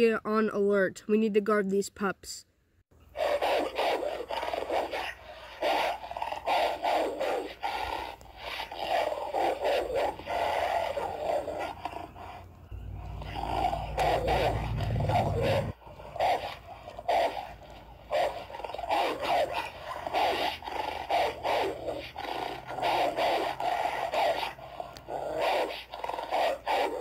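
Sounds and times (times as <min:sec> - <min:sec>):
dogs snarling and growling: 0:03.1 - 0:27.0.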